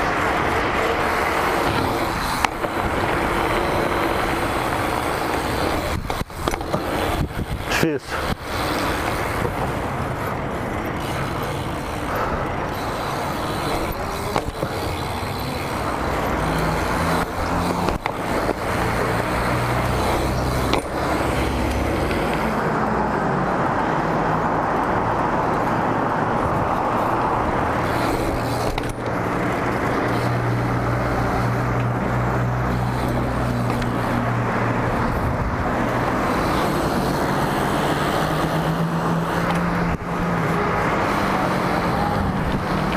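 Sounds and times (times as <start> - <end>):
bike tyres rolling on asphalt: 0.0 - 42.9
road traffic engine hum: 0.0 - 42.9
wind: 0.0 - 42.9.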